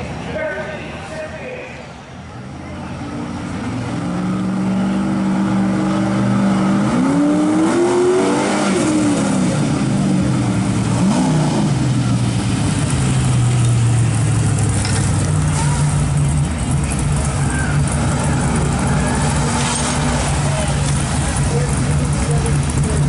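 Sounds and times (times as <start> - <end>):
engine accelerating: 2.9 - 23.0.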